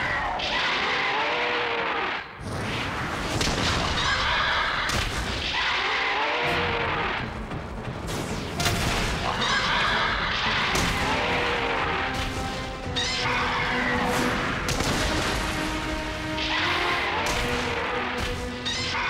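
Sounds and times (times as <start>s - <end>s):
background music: 3.4s - 19.0s.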